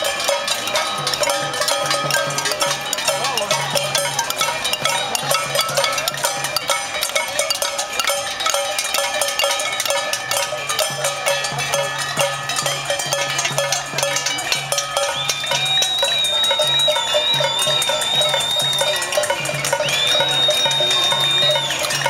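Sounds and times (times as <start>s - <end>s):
crowd banging pots and pans: 0.0s - 22.0s.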